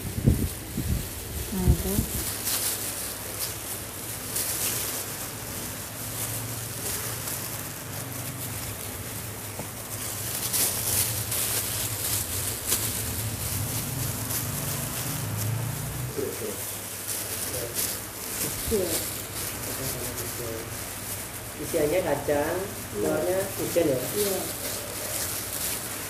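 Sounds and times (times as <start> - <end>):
plastic gloves crinkling: 0.0 - 26.0.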